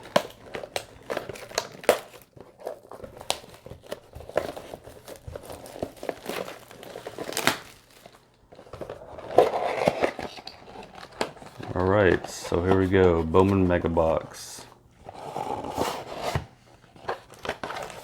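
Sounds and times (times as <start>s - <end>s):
crinkling of packaging: 0.0s - 18.0s.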